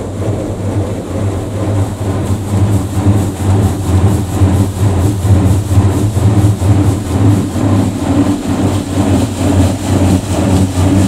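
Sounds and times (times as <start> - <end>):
steady low hum: 0.0 - 11.0
water jets drumming on car: 0.0 - 11.0.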